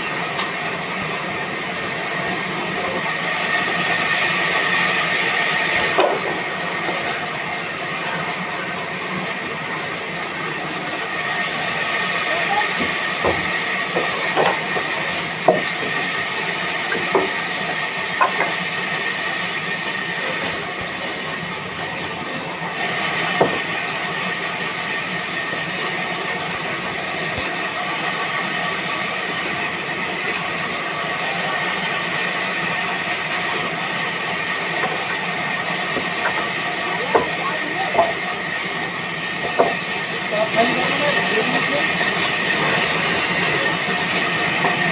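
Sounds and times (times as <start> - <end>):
sawmill machinery hissing: 0.0 - 44.9.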